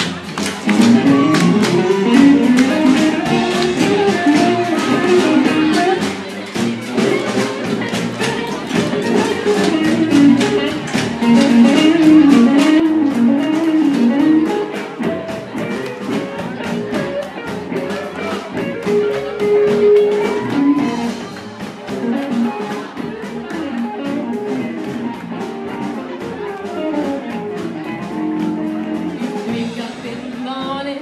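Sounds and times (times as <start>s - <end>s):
electric guitar lead line: 0.0s - 30.8s
bass guitar: 0.0s - 31.0s
drums: 0.0s - 31.0s.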